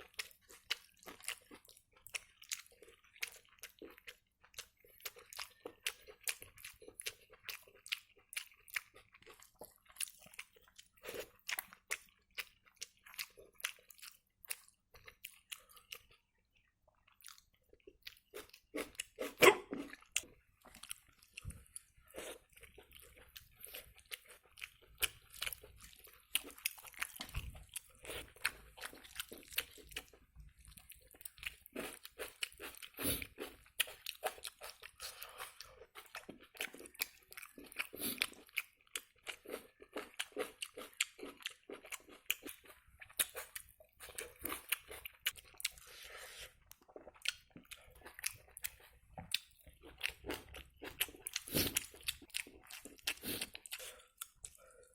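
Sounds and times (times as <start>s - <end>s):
person chewing: 0.0s - 54.9s.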